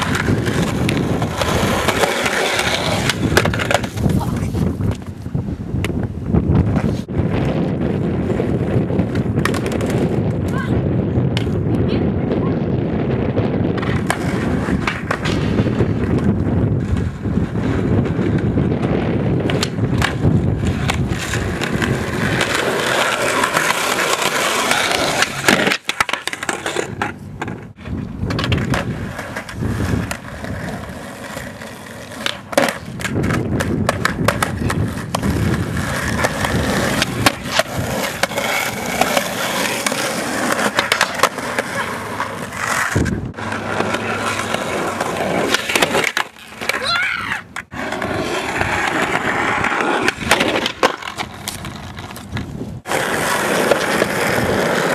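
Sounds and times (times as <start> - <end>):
skateboard clacks: 0.0 - 6.0, 8.2 - 10.7, 11.3 - 11.9, 13.7 - 54.9
skateboard wheels rolling on concrete: 0.0 - 54.9.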